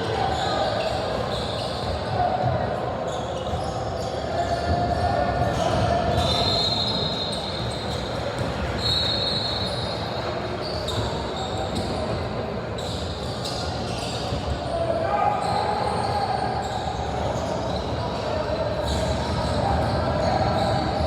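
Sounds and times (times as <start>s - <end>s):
echoing voices in a hall: 0.0s - 21.0s
shoe squeaks: 0.1s - 2.4s, 3.1s - 21.0s.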